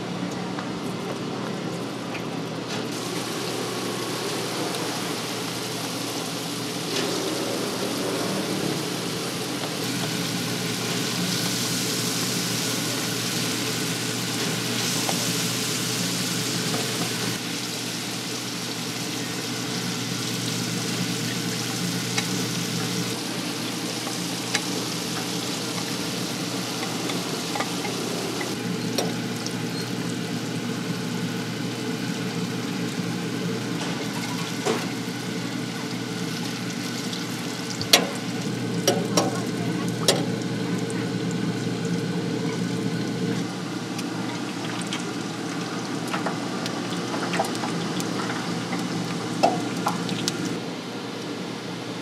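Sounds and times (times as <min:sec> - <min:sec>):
deep-frying sizzle in oil: 0:02.9 - 0:50.6.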